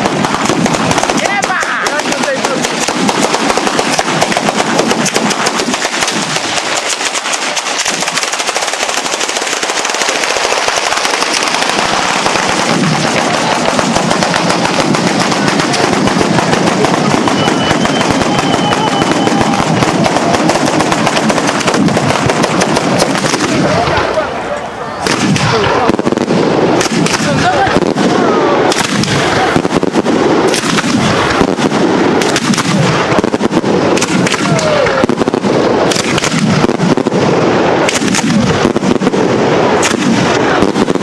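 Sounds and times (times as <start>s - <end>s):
firecrackers rapid-fire bangs: 0.0s - 41.0s.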